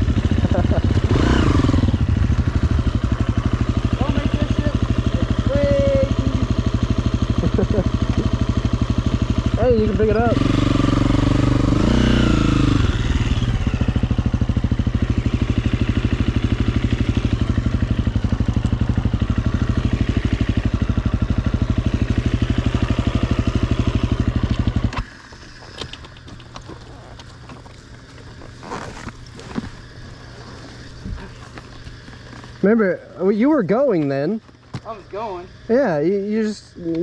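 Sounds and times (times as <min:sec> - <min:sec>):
dirt bike engine idling: 0:00.0 - 0:37.0.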